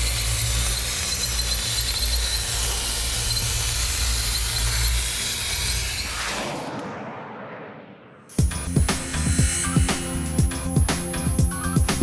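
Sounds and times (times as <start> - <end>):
plasma cutting arc hiss: 0.0 - 6.6, 8.3 - 11.8.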